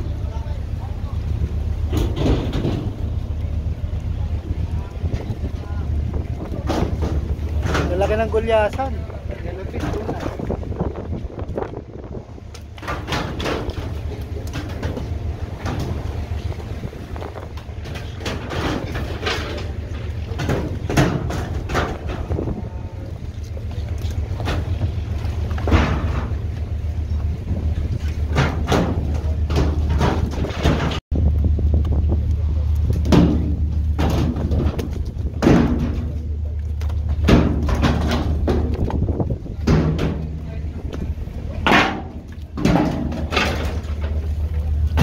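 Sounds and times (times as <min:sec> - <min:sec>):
boat engine droning: 0:00.0 - 0:45.0
steady low rumble: 0:00.0 - 0:45.0.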